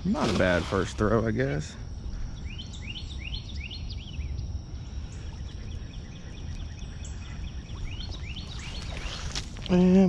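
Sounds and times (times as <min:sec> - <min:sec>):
wild birds chirping: 0:00.0 - 0:10.0.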